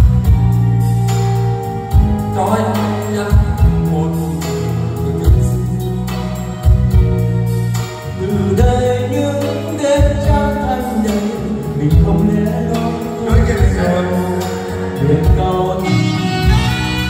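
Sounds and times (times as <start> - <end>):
backing track with bass and beat: 0.0 - 17.0
man singing karaoke: 1.4 - 17.0.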